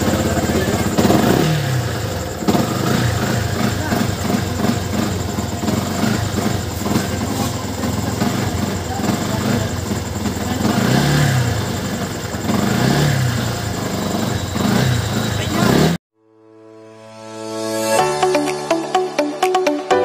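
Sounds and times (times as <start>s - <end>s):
motorcycle engine revving unsteadily: 0.0s - 16.0s.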